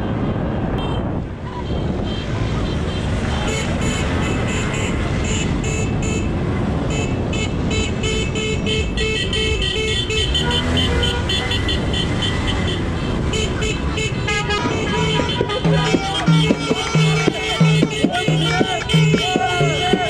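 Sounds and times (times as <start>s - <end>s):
low traffic rumble: 0.0s - 20.0s
car horns honking: 0.8s - 20.0s.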